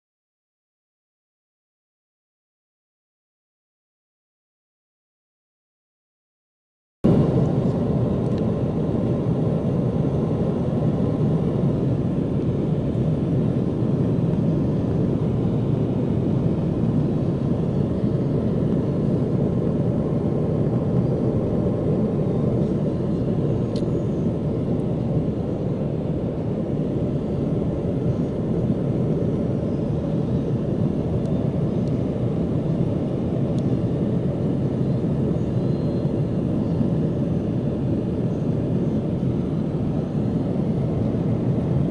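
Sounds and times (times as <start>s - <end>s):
jet airliner cabin noise: 7.0s - 41.9s.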